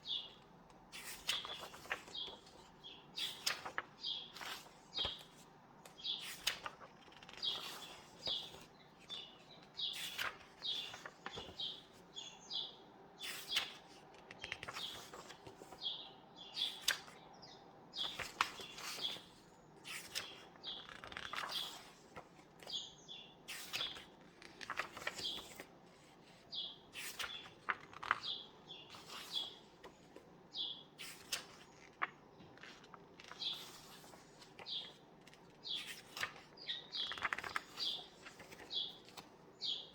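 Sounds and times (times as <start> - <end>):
book pages turning: 0.3 - 12.1, 13.2 - 15.8, 18.0 - 22.8, 23.4 - 39.5.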